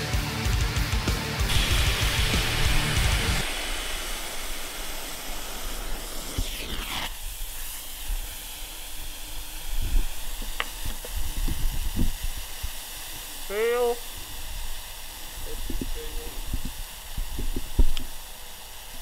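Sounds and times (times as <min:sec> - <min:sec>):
aerosol can hissing: 0:01.5 - 0:19.0.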